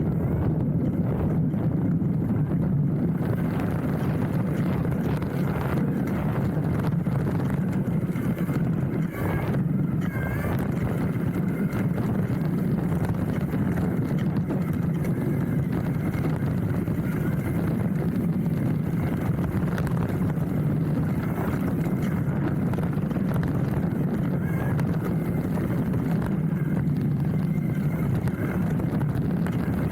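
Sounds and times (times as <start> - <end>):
bike tyres rumbling on gravel: 0.0 - 29.9.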